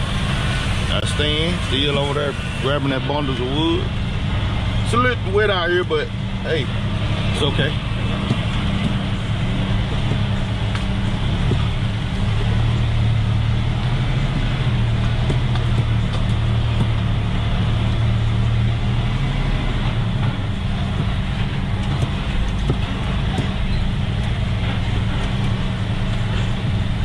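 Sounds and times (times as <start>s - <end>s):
truck diesel engine humming: 0.0s - 27.0s.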